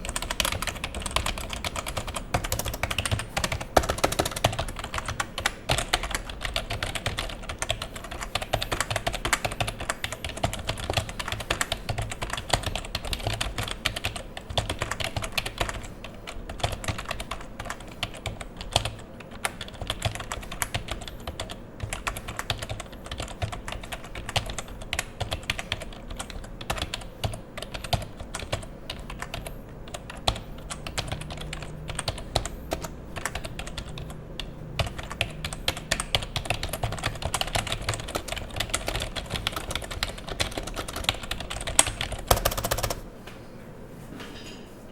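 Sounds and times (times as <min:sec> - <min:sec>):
rapid keyboard typing: 0:00.0 - 0:43.1.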